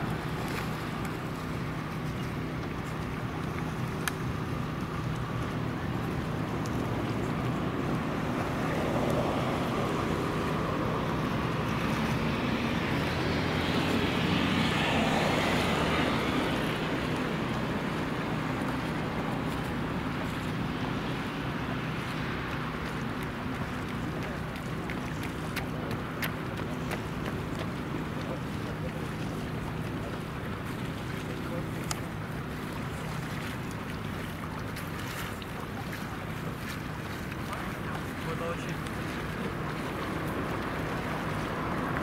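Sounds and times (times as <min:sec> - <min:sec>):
rush of water and wind: 0:00.0 - 0:42.0.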